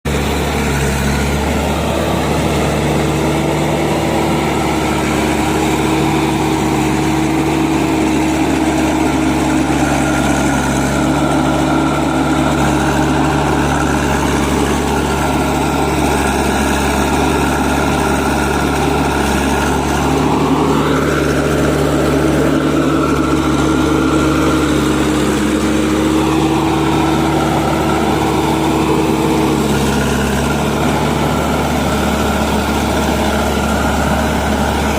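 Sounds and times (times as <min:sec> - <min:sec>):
heavy diesel engine revving: 0:00.0 - 0:34.9.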